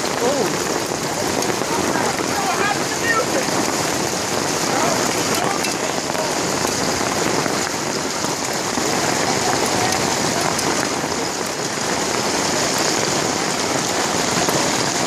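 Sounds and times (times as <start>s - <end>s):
hailstones ticking: 0.0s - 15.0s
heavy rain hissing: 0.0s - 15.0s.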